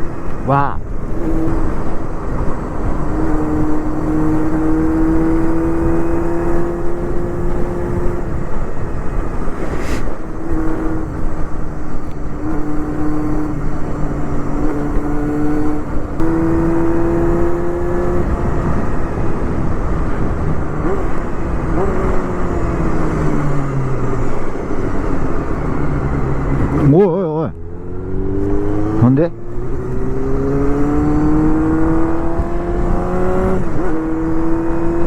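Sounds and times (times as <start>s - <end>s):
motorcycle engine at high revs: 0.0s - 35.0s
wind and road noise: 0.0s - 35.0s.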